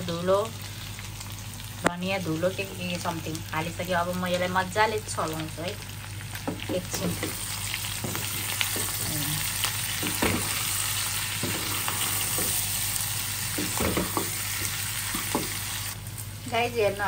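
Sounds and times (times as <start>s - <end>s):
meat and onion sizzling in pan: 0.0s - 17.0s.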